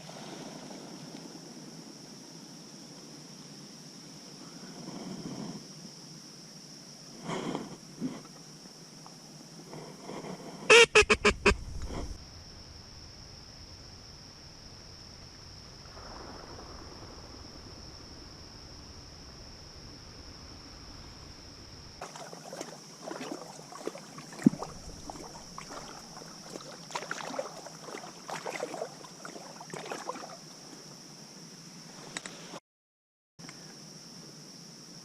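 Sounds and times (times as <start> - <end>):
high-pitched insect trill: 0.7 - 32.5.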